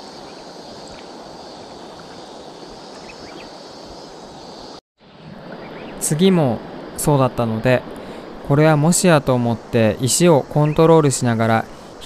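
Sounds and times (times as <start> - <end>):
flowing river water: 0.0 - 4.4, 5.0 - 12.0.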